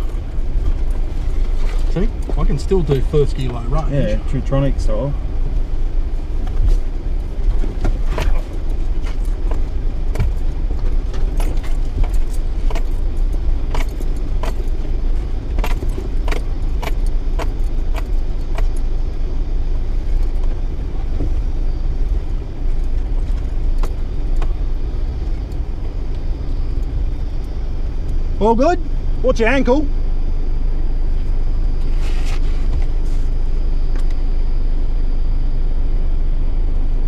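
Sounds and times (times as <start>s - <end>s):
truck engine and road rumble: 0.0s - 37.0s.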